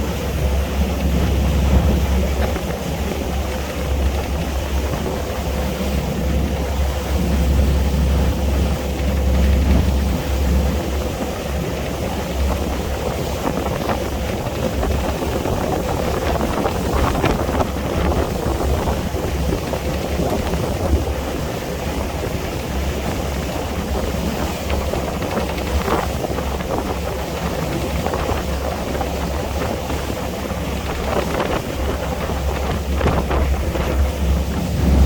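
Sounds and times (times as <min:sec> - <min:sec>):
boat engine drone: 0:00.0 - 0:35.0
water rushing and splashing: 0:00.0 - 0:35.0
wind buffeting microphone: 0:00.0 - 0:35.0.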